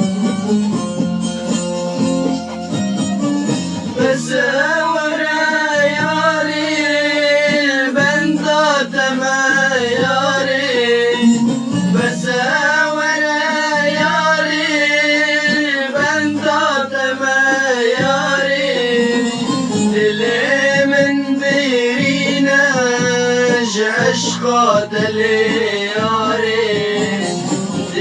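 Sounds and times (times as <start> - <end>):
instrumental folk melody: 0.0 - 28.0.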